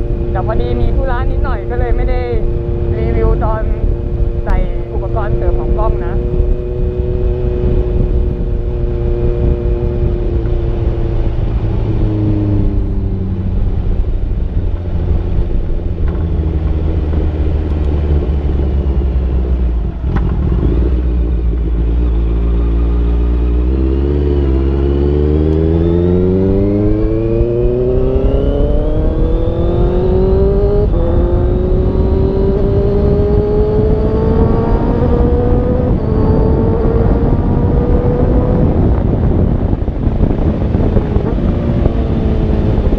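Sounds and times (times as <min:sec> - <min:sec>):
motorcycle engine accelerating: 0:00.0 - 0:42.9
wind rumble on microphone: 0:00.0 - 0:42.9.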